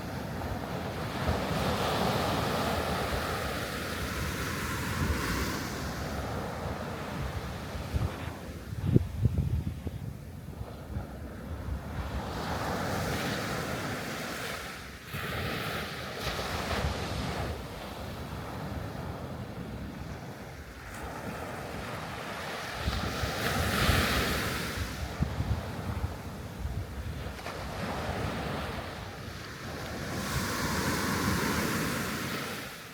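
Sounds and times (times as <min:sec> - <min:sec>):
sea waves breaking on shore: 0:00.0 - 0:08.8, 0:10.4 - 0:32.9
wind buffeting microphone: 0:00.0 - 0:13.8, 0:16.2 - 0:32.6.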